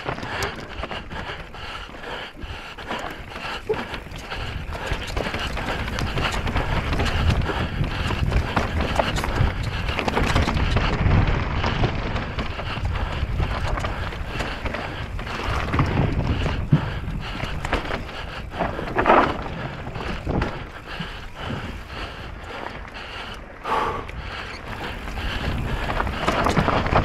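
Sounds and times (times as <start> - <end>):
wind on the microphone: 0.0 - 22.7, 23.6 - 27.0
bike clattering on rough trail: 0.0 - 27.0.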